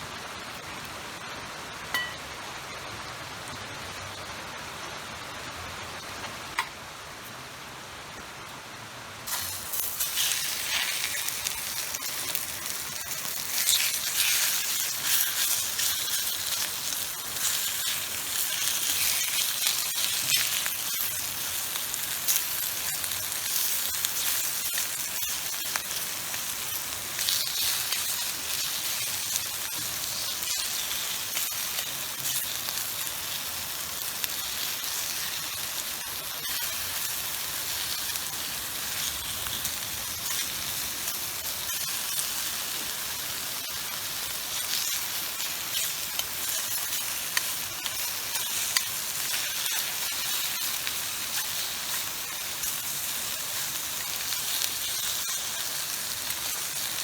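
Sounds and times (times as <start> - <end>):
food sizzling in hot pan: 0.1 - 3.6, 9.2 - 57.0.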